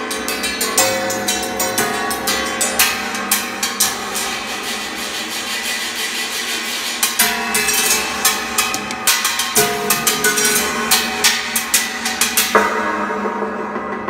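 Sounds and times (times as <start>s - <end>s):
metal sheet springs ringing: 0.0s - 12.5s.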